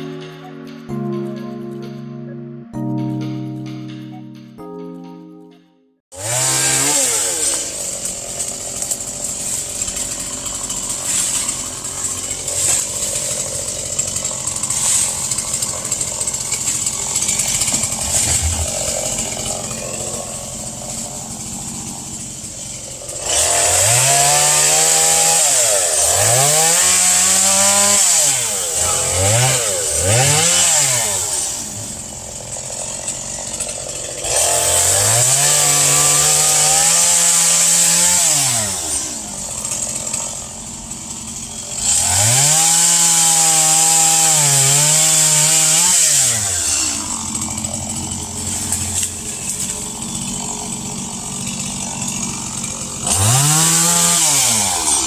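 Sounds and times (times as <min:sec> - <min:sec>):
chainsaw cutting wood: 0:06.1 - 0:55.0
chainsaw idling: 0:06.1 - 0:55.0.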